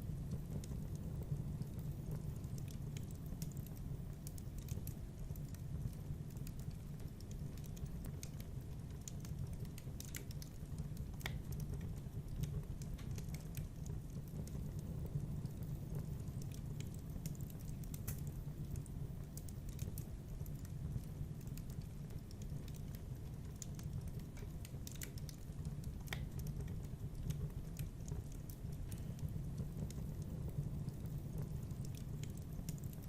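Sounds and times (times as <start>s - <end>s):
fire pops and snaps: 0.0s - 33.0s
wood fire crackling: 0.0s - 33.0s.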